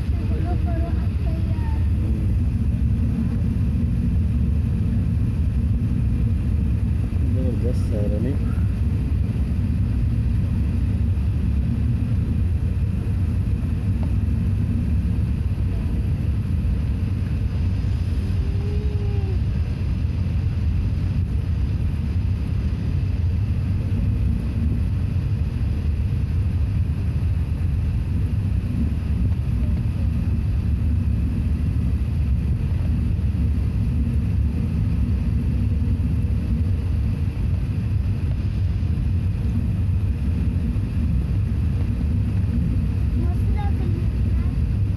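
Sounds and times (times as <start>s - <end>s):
airplane cabin rumble: 0.0s - 44.9s.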